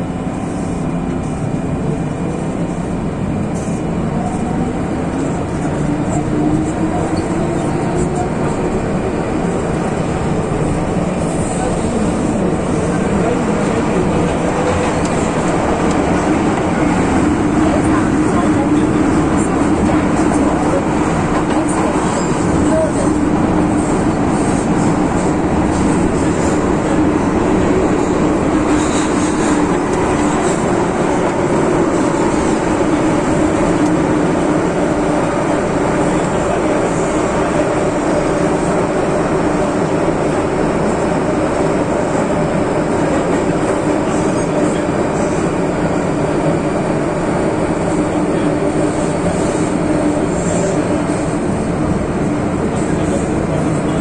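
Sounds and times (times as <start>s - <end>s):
train rumbling through tunnel: 0.0s - 54.0s.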